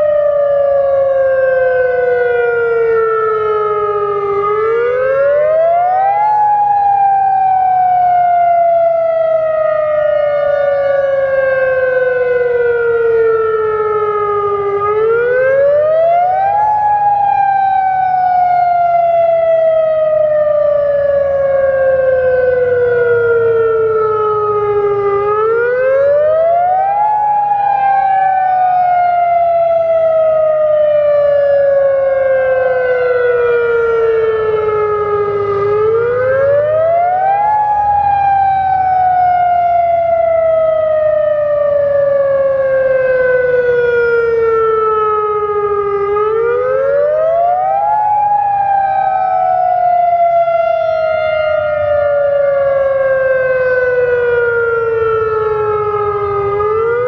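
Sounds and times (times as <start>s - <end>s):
distant sirens wailing: 0.0s - 57.0s
warning siren wailing: 0.0s - 57.0s.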